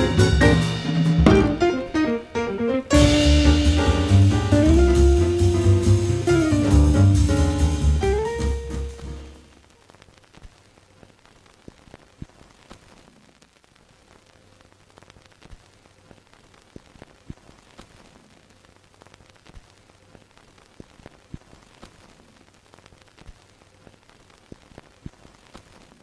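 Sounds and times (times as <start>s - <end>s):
film crackle hiss with pops: 0.0s - 26.0s.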